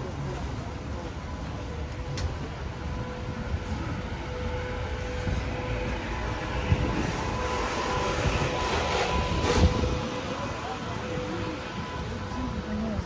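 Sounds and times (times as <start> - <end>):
elevated subway train whine: 0.0 - 13.0
traffic rumble: 0.0 - 13.0.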